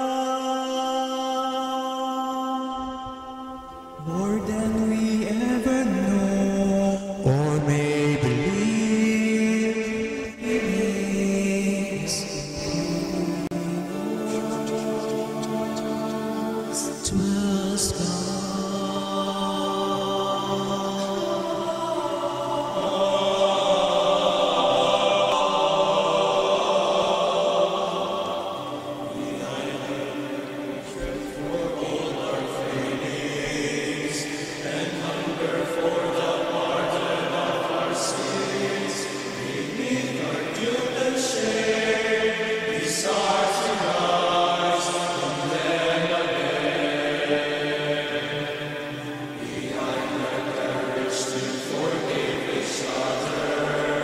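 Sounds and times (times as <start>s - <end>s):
male choir singing sustained chords: 0.0s - 54.0s.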